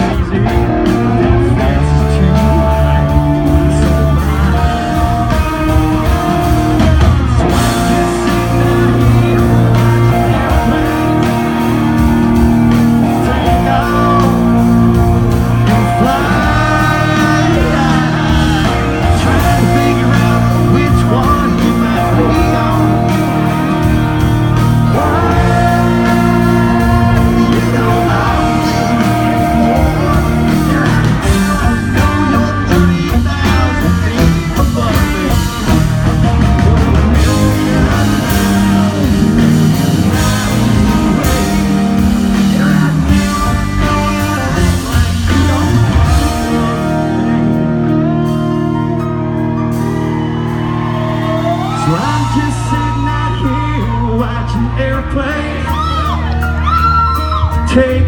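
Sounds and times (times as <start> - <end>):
man singing lead vocal: 0.0 - 49.2, 51.2 - 58.0
live country band: 0.0 - 58.0.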